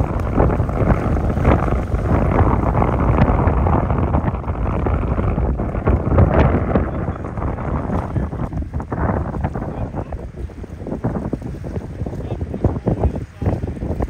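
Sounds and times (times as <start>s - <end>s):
choppy seawater rushing: 0.0s - 14.0s
wind buffeting microphone: 0.0s - 14.0s.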